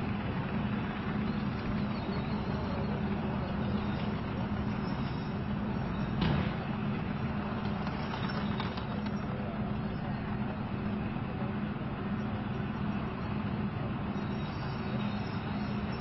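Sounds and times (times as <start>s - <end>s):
tank diesel engine droning: 0.0s - 16.0s.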